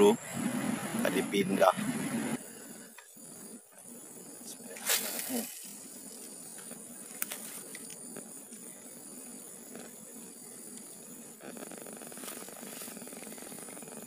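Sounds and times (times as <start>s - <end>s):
faint high-pitched hiss: 0.0s - 14.0s.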